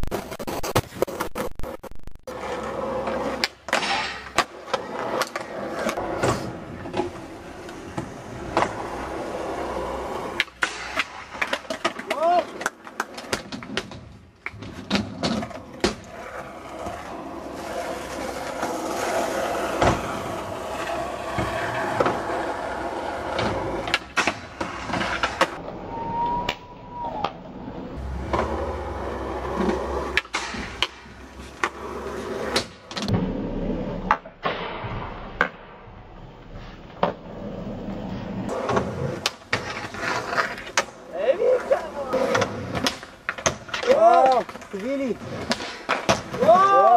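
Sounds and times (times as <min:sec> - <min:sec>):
skateboard wheels rolling on asphalt: 0:00.0 - 0:46.9.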